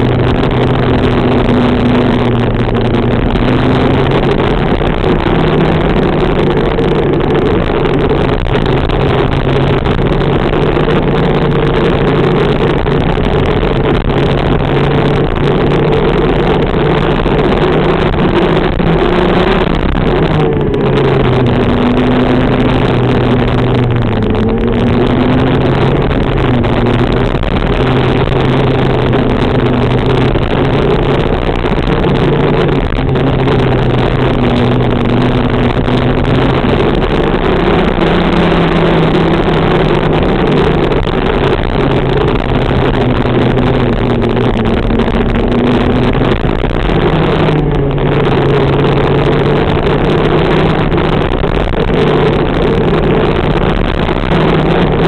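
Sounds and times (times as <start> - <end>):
kart engine running hard: 0.0 - 55.0.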